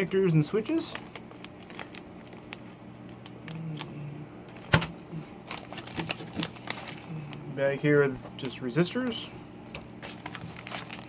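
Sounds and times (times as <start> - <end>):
plastic bags crinkling and clicking: 0.3 - 3.9, 4.5 - 8.1, 9.0 - 11.0.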